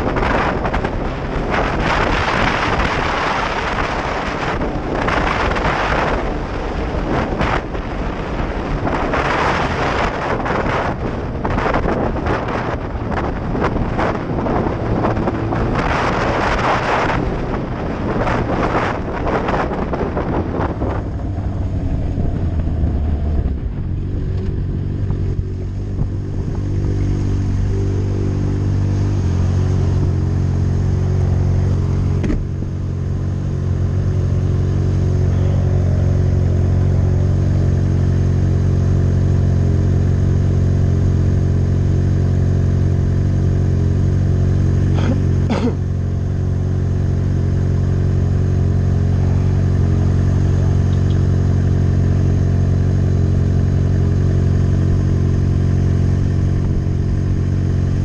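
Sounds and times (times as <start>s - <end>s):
wind rush over microphone: 0.0s - 45.6s, 46.3s - 58.0s
motorcycle engine running: 0.0s - 58.0s.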